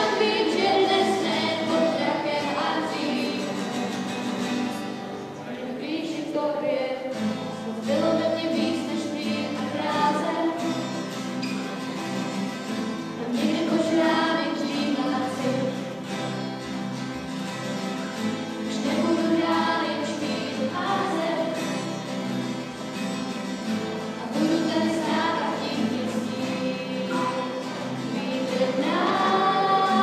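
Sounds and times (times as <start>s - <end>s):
children singing: 0.0s - 4.8s, 5.4s - 11.3s, 13.2s - 17.1s, 18.5s - 22.5s, 23.7s - 30.0s
strummed acoustic guitars: 0.0s - 30.0s.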